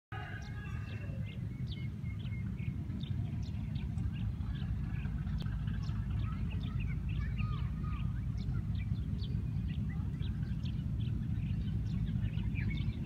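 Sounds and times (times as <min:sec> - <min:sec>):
small birds chirping: 0:00.2 - 0:13.0
steady low rumble: 0:00.2 - 0:13.0.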